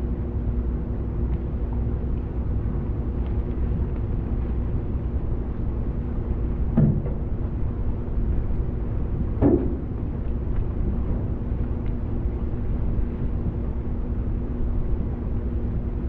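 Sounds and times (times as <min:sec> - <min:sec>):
ferry engine drone: 0:00.0 - 0:16.0.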